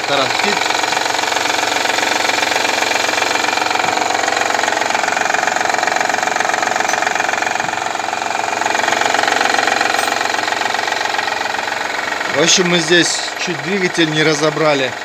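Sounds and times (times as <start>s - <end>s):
car engine idling: 0.0s - 15.0s
rattling engine knock: 0.0s - 15.0s.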